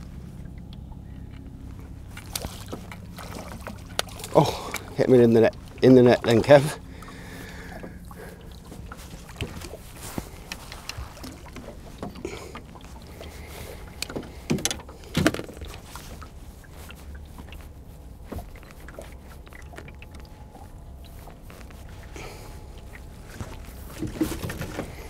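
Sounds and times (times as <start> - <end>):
wind and water rumble: 0.0 - 25.0
gear knocking against boat: 1.2 - 25.0.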